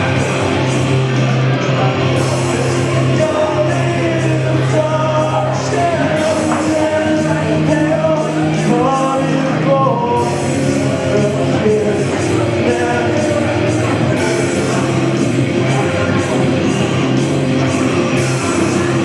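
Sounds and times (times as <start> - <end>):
live rock music with singing: 0.0 - 19.0.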